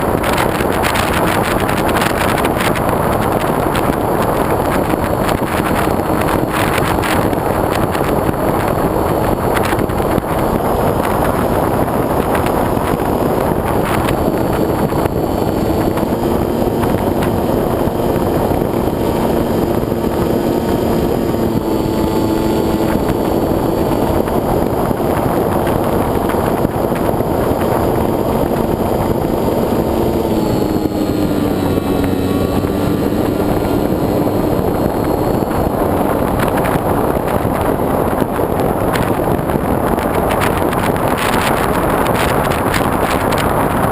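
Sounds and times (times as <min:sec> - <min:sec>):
propeller motor whining: 0:00.0 - 0:43.9
rush of air: 0:00.0 - 0:43.9.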